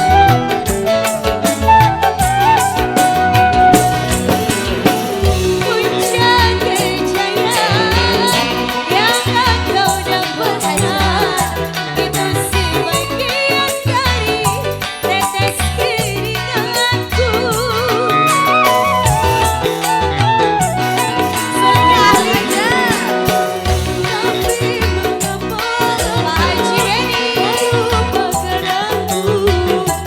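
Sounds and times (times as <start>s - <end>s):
folk-pop band music: 0.0s - 30.0s.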